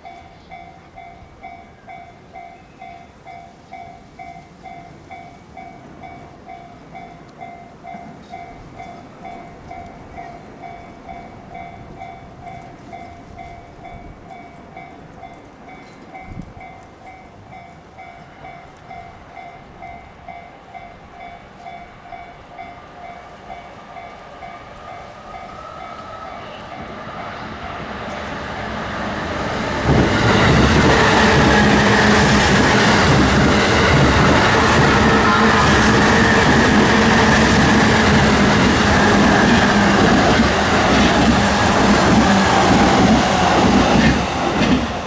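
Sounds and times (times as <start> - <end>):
train rumbling: 0.0 - 45.0.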